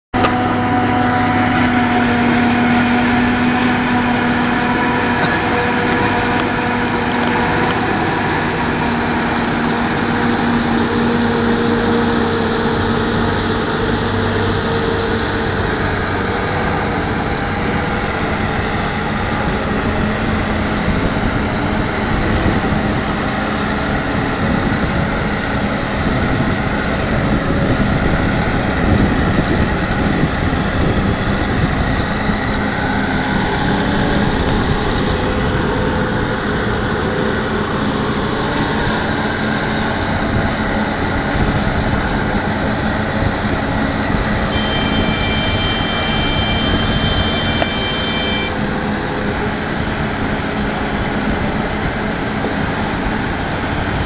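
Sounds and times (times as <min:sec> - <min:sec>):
harvester engine and chopper: 0:00.1 - 0:54.0
tractor engine: 0:00.1 - 0:54.0.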